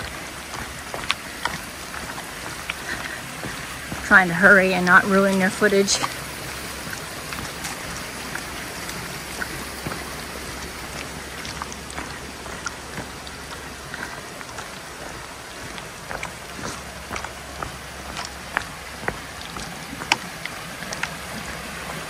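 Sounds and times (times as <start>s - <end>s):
light rain falling: 0.0s - 22.0s.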